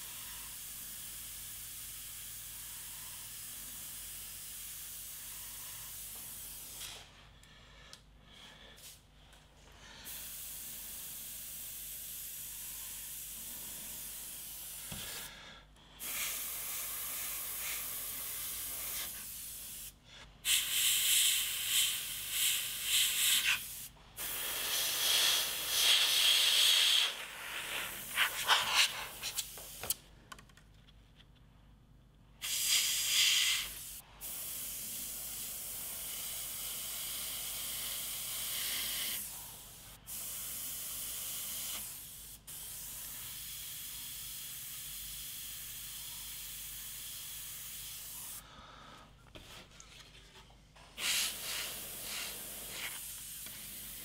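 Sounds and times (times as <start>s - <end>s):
airbrush hissing: 0.0s - 6.9s, 10.0s - 15.4s, 16.0s - 29.9s, 32.4s - 48.5s, 50.9s - 54.0s.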